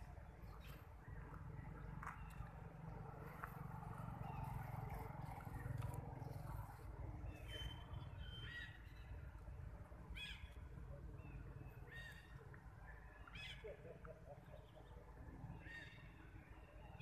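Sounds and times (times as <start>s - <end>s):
low steady rumble: 0.0s - 16.8s.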